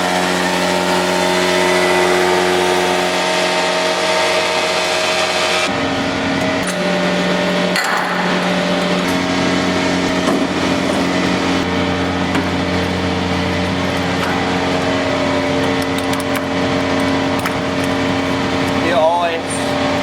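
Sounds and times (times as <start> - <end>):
vacuum pump running: 0.0 - 20.0.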